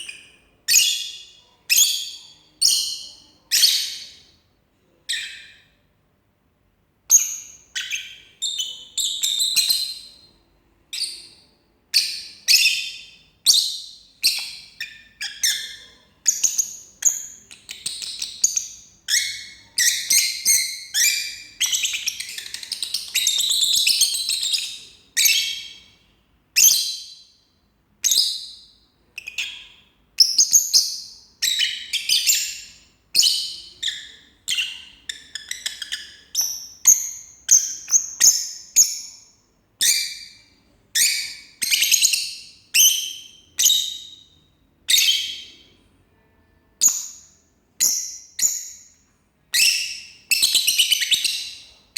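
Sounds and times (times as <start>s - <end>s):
lovebird chirping and chattering: 0.0s - 4.3s, 5.1s - 5.7s, 7.1s - 10.3s, 10.9s - 26.0s, 26.6s - 27.3s, 28.0s - 45.7s, 46.8s - 51.9s.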